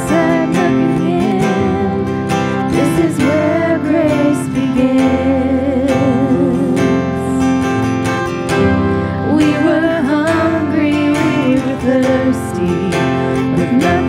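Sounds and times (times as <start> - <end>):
person singing with vibrato: 0.0 - 7.9, 8.9 - 14.0
acoustic guitar strumming: 0.0 - 14.0.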